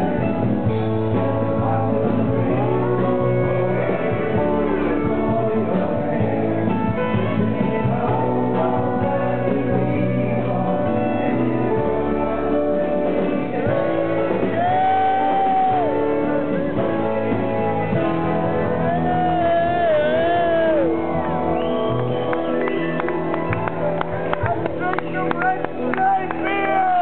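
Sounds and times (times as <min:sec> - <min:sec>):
guitars: 0:00.0 - 0:27.0
live band playing: 0:00.0 - 0:27.0.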